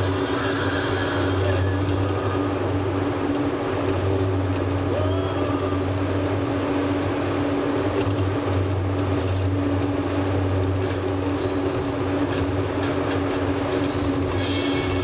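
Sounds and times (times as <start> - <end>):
car engine hum: 0.0 - 15.0
tyre and road noise: 0.0 - 15.0.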